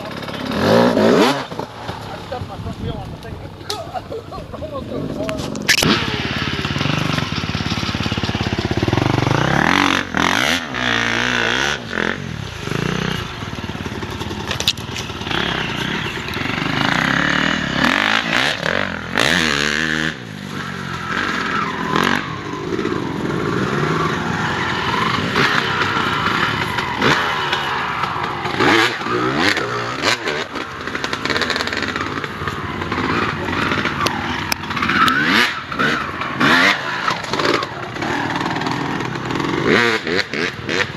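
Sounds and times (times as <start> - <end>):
motorcycle engine revving: 0.0 - 3.9, 4.6 - 40.9
motorcycle clattering over rough ground: 0.0 - 40.9.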